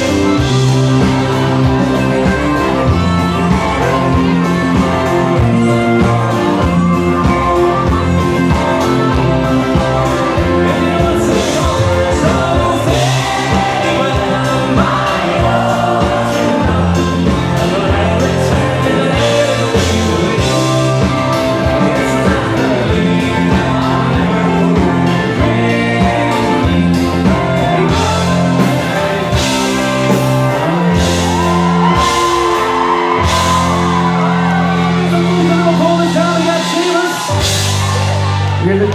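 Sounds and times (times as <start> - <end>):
man singing: 0.0 - 32.4
live band playing: 0.0 - 38.9.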